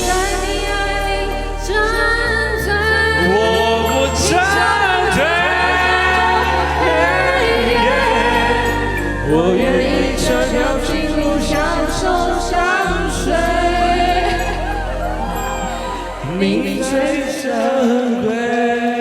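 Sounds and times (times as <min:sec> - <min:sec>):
sustained bass line: 0:00.0 - 0:17.2
person singing: 0:00.0 - 0:19.0.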